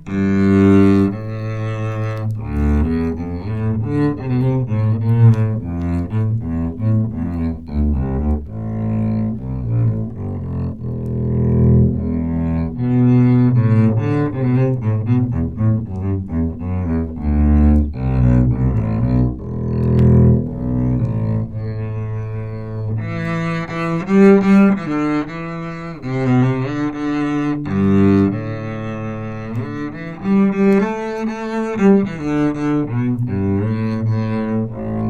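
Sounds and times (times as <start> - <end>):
low string instruments playing: 0.0 - 35.0.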